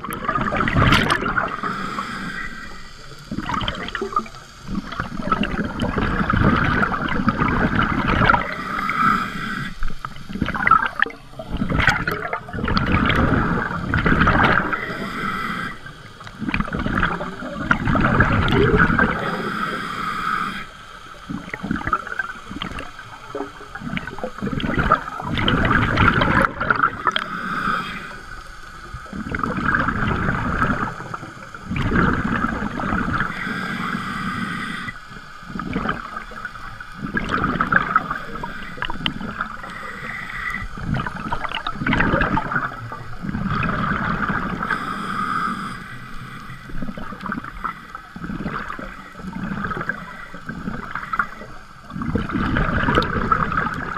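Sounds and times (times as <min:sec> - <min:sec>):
diver's regulator breathing: 0:00.0 - 0:53.9
exhaled bubbles gurgling: 0:00.0 - 0:53.9.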